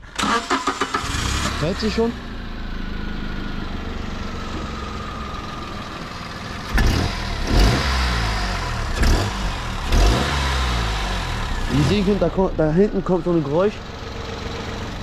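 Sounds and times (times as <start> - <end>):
car engine idling and revving: 0.0 - 15.0
exhaust noise: 0.6 - 15.0.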